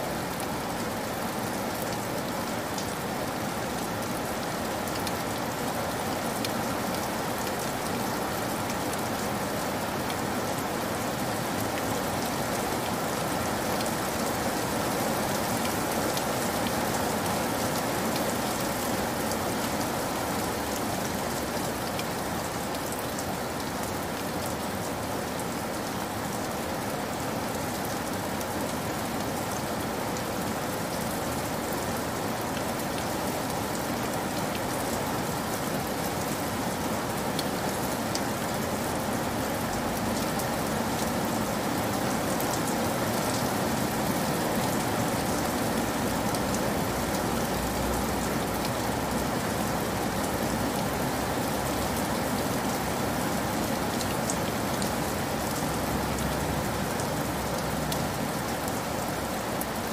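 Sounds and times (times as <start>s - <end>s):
heavy rain splashing: 0.0s - 59.9s.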